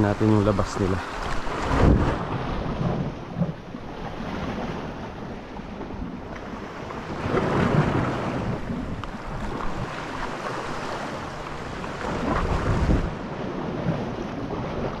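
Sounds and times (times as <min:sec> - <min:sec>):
sea water: 0:00.0 - 0:15.0
wind buffeting microphone: 0:00.0 - 0:15.0.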